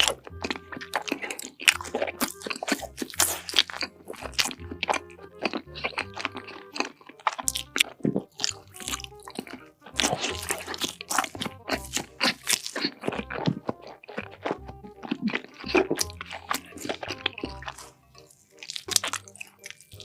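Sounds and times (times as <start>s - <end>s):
background music with bass line: 0.0s - 20.0s
crunching and chewing food: 0.0s - 20.0s.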